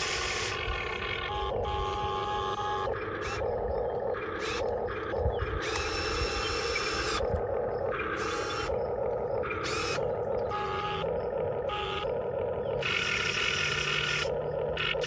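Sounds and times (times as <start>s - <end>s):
electric motors whirring: 0.0s - 15.0s
low rumble: 0.5s - 12.8s.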